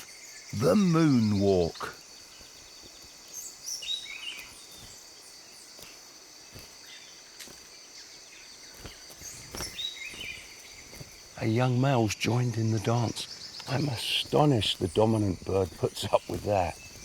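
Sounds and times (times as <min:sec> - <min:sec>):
bird chirps: 0:00.0 - 0:17.0
insect trilling: 0:00.0 - 0:17.0.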